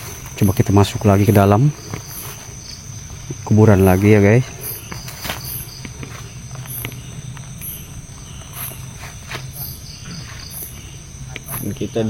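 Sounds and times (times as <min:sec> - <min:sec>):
footsteps rustling: 0:00.0 - 0:12.0
night insects chirping: 0:00.0 - 0:12.0
steady low hum: 0:00.0 - 0:12.0.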